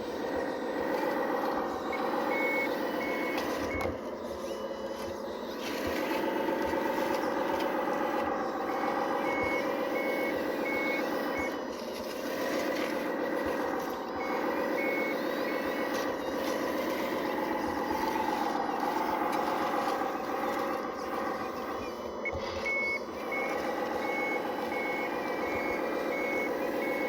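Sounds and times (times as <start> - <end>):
motor and pump whine: 0.0 - 27.0
reversing beeper: 0.0 - 27.0.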